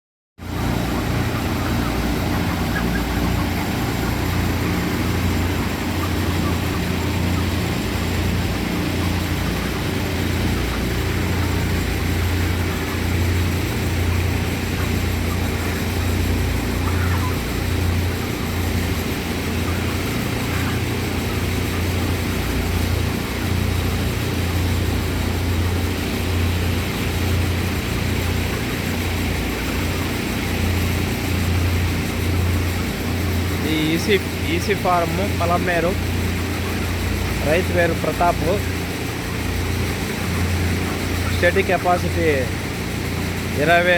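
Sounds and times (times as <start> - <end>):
ventilation fans droning: 0.4 - 43.9.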